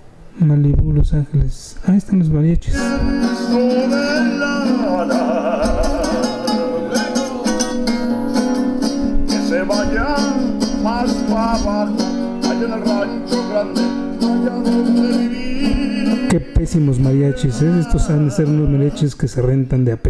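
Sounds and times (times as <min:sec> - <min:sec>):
person singing with vibrato: 0:02.7 - 0:19.4
acoustic guitars strumming: 0:02.7 - 0:19.6.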